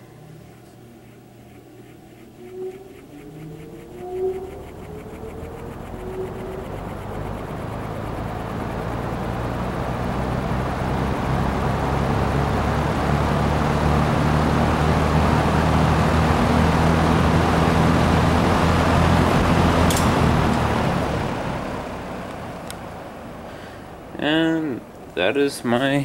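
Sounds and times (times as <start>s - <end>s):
box fan air rush: 0.0s - 24.4s
fan motor hum: 0.0s - 26.0s.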